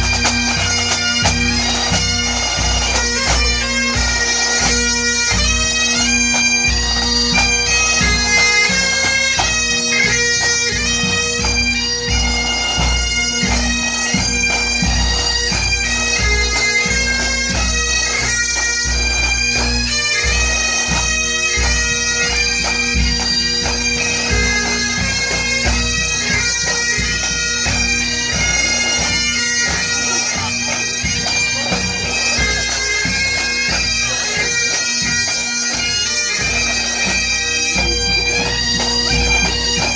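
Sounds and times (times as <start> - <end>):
bagpipes playing: 0.0 - 39.9.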